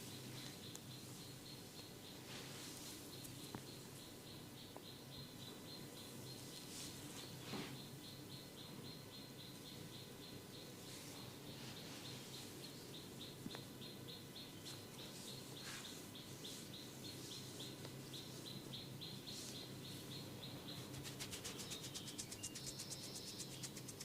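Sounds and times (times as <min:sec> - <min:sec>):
small bird chirping: 0:00.0 - 0:24.0.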